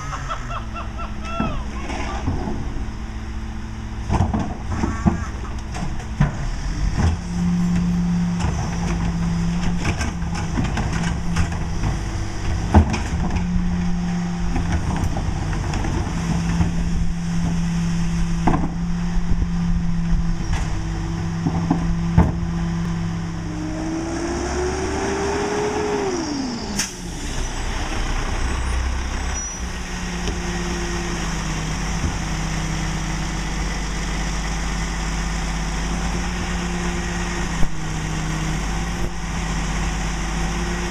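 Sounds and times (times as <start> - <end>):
garbage truck diesel engine running: 0.0 - 24.2, 26.3 - 40.9.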